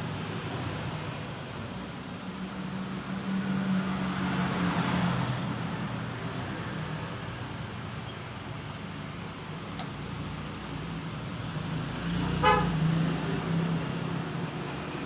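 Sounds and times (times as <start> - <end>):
engine hum and road noise: 0.0 - 15.0.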